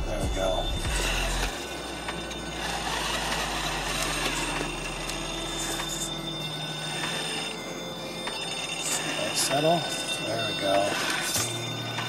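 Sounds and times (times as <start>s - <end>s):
electric motor whirring: 0.0s - 12.0s.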